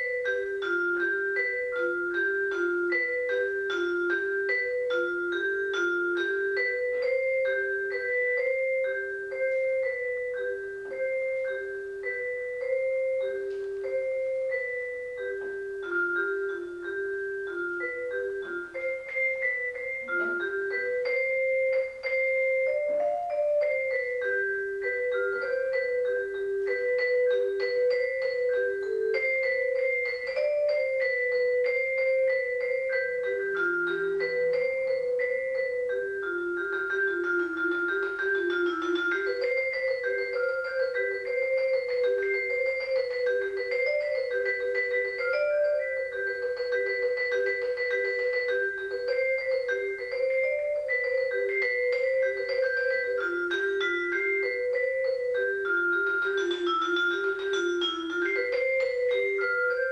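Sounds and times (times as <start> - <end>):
vibraphone notes: 0.0 - 59.9.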